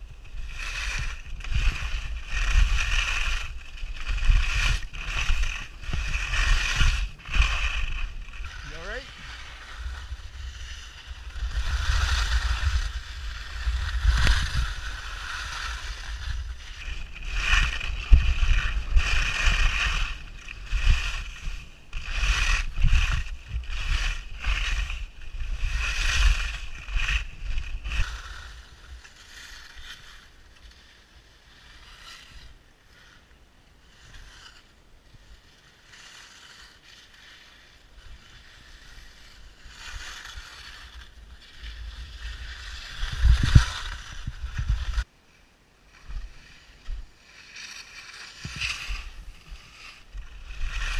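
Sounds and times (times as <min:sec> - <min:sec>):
wind rumbling on microphone: 0:00.0 - 0:32.7, 0:37.2 - 0:45.1, 0:45.9 - 0:50.9
skis scraping through snow: 0:00.0 - 0:50.9.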